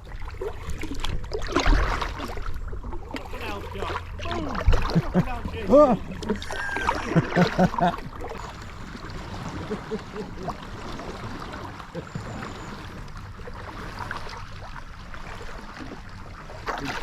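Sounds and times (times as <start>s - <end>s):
water splashing and lapping: 0.0s - 17.0s.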